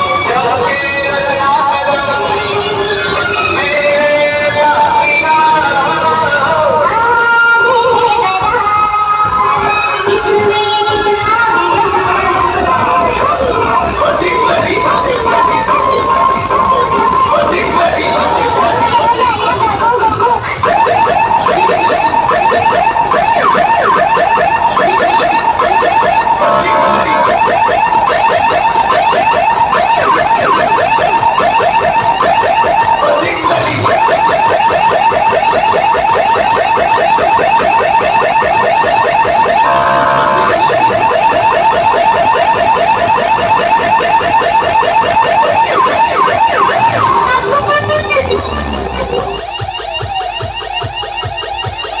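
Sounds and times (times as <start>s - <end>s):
warbling siren tone through loudspeakers: 0.0s - 52.0s.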